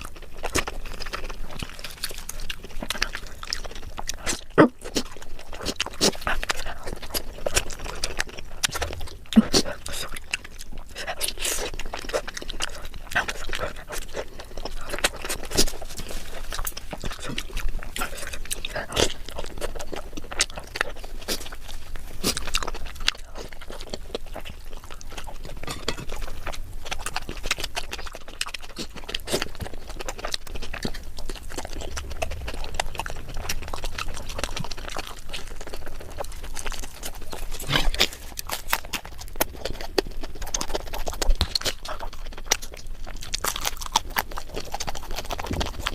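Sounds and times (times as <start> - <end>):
wet chewing and mouth sounds: 0.0 - 45.9.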